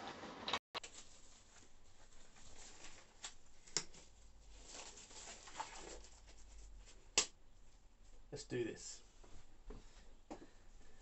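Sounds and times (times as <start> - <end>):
gloves rustling: 0.8 - 11.0.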